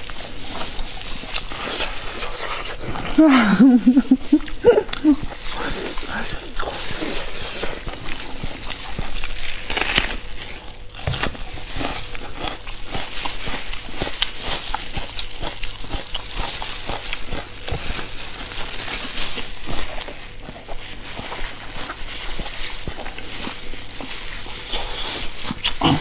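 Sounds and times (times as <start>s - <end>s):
person chewing: 0.0s - 26.0s
plastic gloves crinkling: 0.0s - 26.0s.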